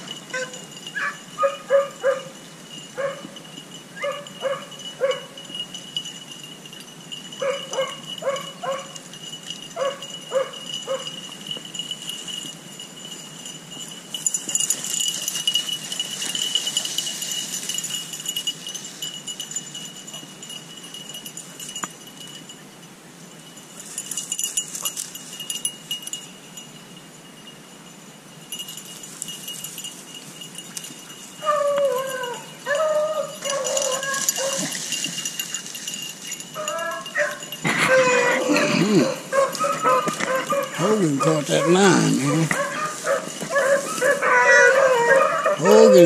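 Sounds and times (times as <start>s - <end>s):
dogs baying: 0.0s - 21.8s, 30.6s - 46.0s.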